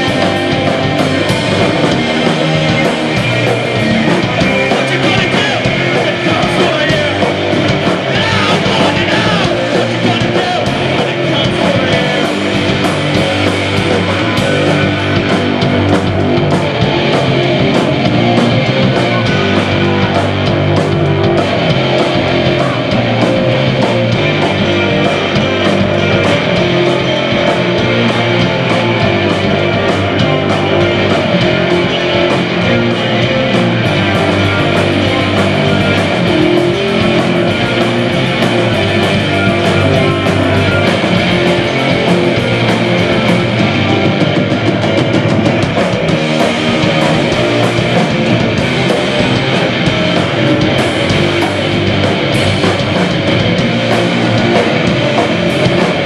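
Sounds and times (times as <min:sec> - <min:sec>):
rock band playing live: 0:00.0 - 0:56.0
steady drum beat: 0:00.0 - 0:56.0.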